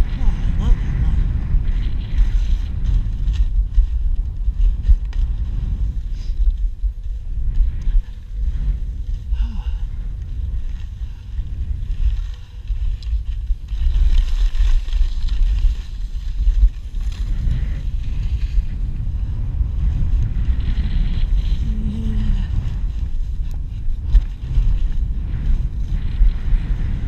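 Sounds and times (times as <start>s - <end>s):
skis scraping on snow: 0.0s - 9.3s, 10.3s - 27.0s
wind buffeting microphone: 0.0s - 27.0s.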